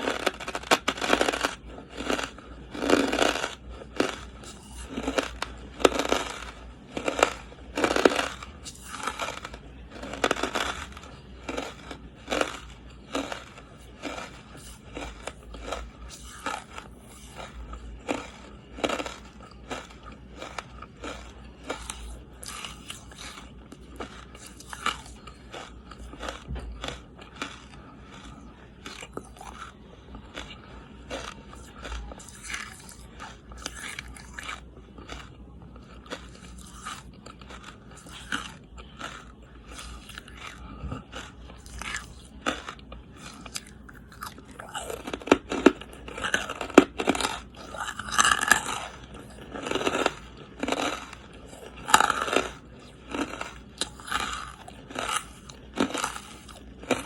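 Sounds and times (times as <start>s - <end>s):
chewing charcoal crunches: 0.0s - 57.0s.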